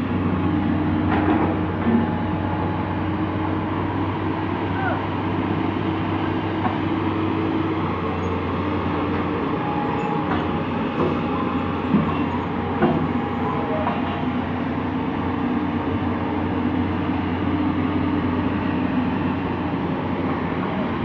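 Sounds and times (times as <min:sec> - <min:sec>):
heavy diesel machinery droning: 0:00.0 - 0:21.0.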